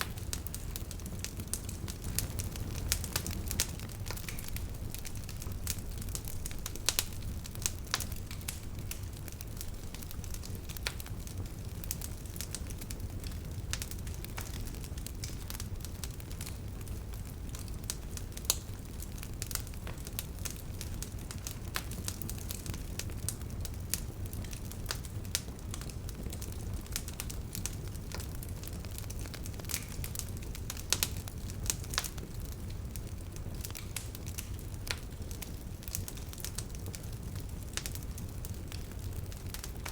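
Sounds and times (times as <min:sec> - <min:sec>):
bonfire crackling and popping: 0:00.0 - 0:39.9
low rumble of flames: 0:00.0 - 0:39.9.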